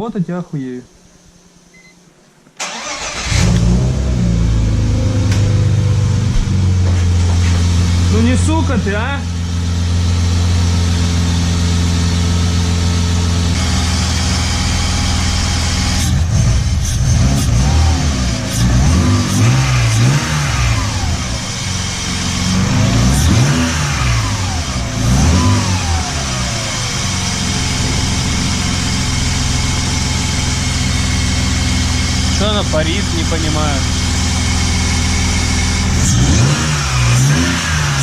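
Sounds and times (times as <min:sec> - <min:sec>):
car engine idling and revving: 0:02.6 - 0:38.0.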